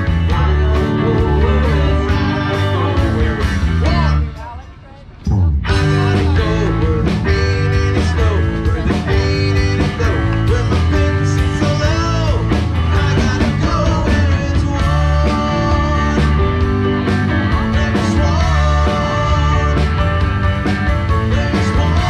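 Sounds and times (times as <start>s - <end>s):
drum kit: 0.0s - 4.6s, 5.2s - 22.0s
electric guitars: 0.0s - 22.0s.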